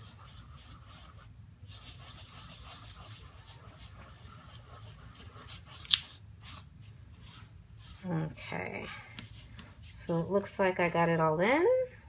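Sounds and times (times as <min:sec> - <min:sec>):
scratchy rubbing: 0:00.0 - 0:11.2.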